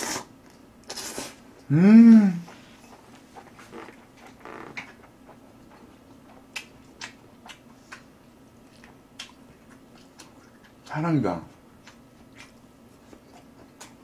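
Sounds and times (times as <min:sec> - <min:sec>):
faint steady hum: 0:00.0 - 0:14.0
soft chewing: 0:02.4 - 0:14.0.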